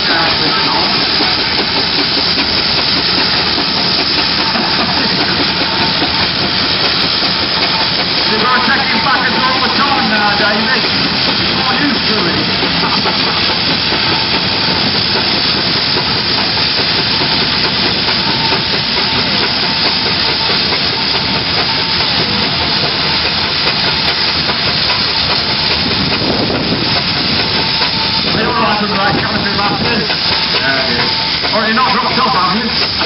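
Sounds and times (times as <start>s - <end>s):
loud hiss of steam: 0.0s - 33.0s
steam engines running: 0.0s - 33.0s.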